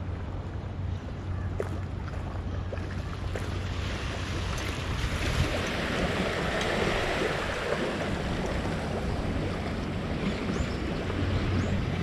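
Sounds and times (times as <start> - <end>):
water rushing and sloshing: 0.8 - 12.0.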